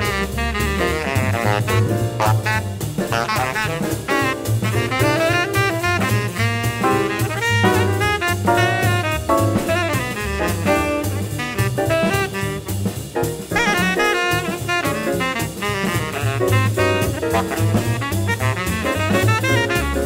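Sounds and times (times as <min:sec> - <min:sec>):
drums on cymbals: 0:00.0 - 0:20.0
tenor saxophone solo: 0:00.0 - 0:20.0
walking bass: 0:00.0 - 0:20.0.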